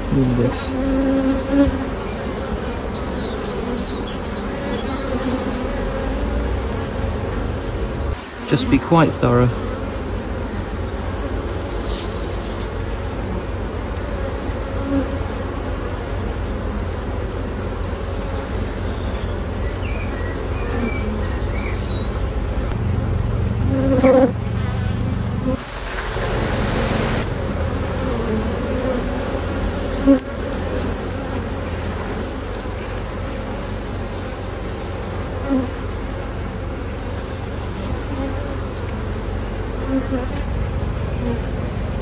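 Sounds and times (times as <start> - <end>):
bees buzzing: 0.0 - 42.0.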